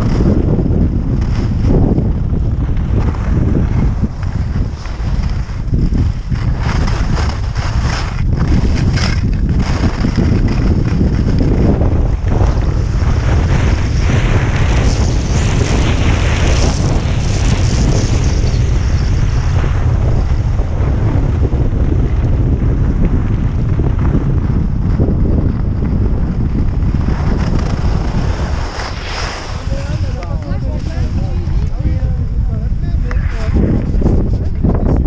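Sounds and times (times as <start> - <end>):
skis sliding over snow: 0.0 - 20.4, 21.8 - 35.0
wind buffeting microphone: 0.0 - 35.0.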